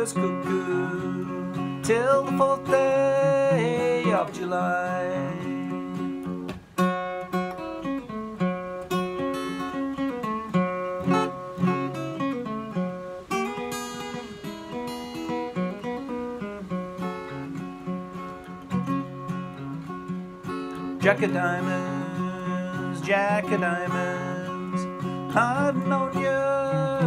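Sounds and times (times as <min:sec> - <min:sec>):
acoustic guitar picking: 0:00.0 - 0:27.0.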